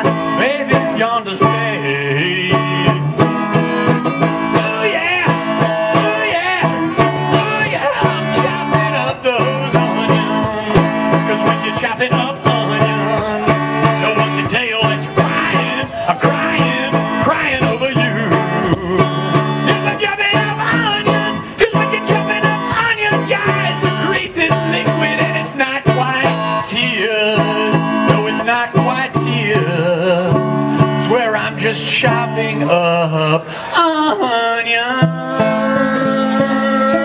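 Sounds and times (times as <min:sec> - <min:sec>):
banjo picking: 0:00.0 - 0:33.2, 0:35.0 - 0:37.0
live country band playing: 0:00.0 - 0:37.0.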